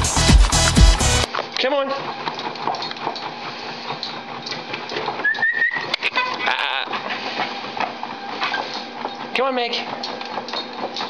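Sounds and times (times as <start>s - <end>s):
treadmill belt running: 0.0s - 11.0s.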